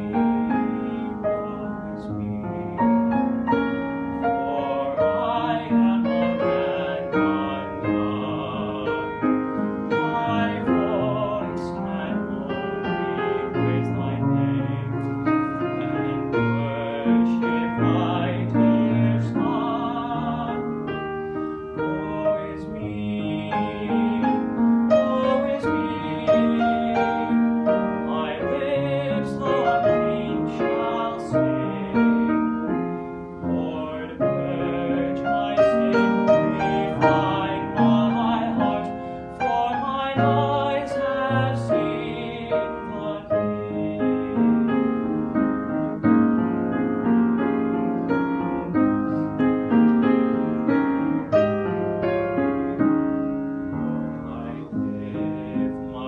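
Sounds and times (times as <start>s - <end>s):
piano accompaniment: 0.0s - 56.0s
young man singing: 0.0s - 56.0s.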